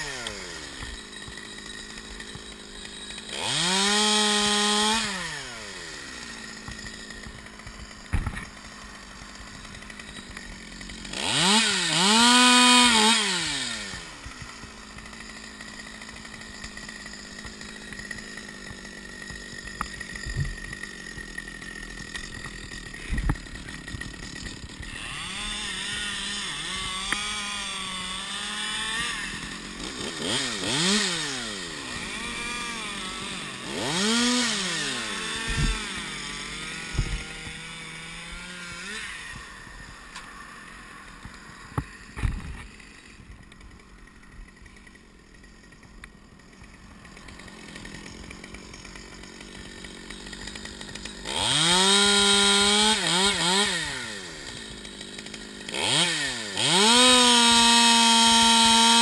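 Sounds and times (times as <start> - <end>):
chainsaw idling and revving: 0.0 - 59.0.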